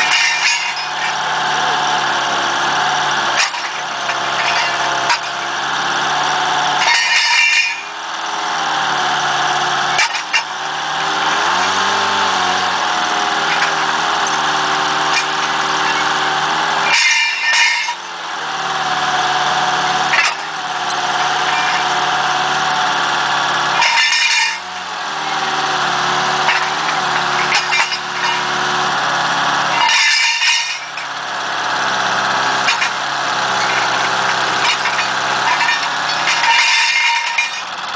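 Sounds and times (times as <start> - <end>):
machine engine running: 0.0 - 37.9
steel plates clattering: 0.0 - 37.9.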